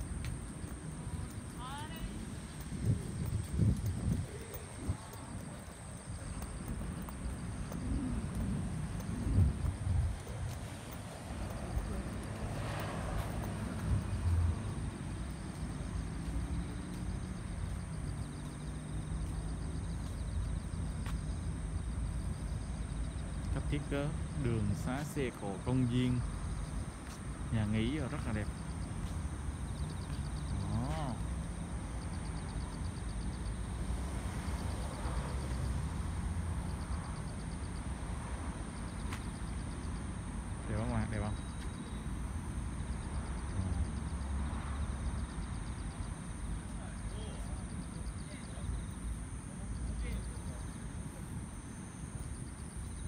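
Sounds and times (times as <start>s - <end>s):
faint insects chirping: 0.0s - 53.0s
road traffic rumble: 0.0s - 53.0s.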